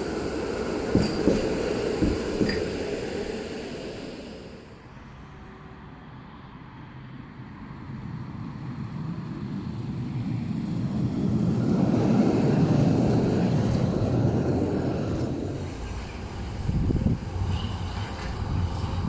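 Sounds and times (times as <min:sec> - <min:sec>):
tram rumbling: 0:00.0 - 0:05.7, 0:07.4 - 0:19.0.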